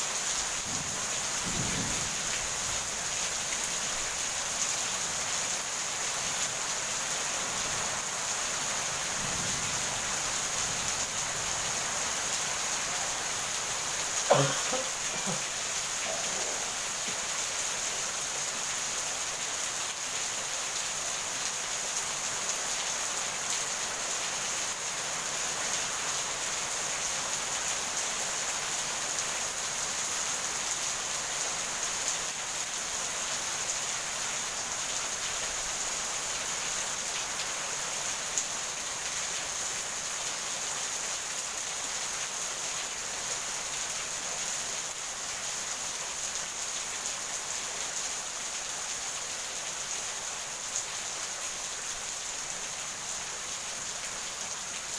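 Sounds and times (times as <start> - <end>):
constant high hiss: 0.0 - 54.9
steady rainfall: 0.0 - 54.9.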